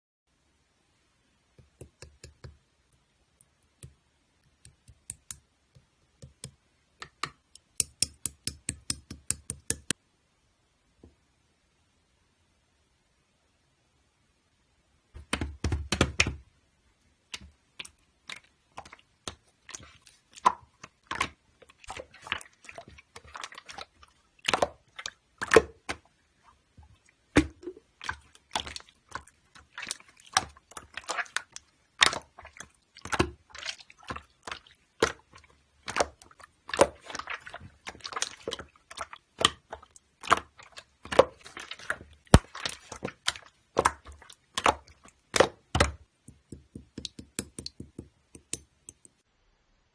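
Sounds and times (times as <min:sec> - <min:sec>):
slime squishing with wet pops: 0:01.6 - 0:10.0, 0:17.2 - 0:49.2.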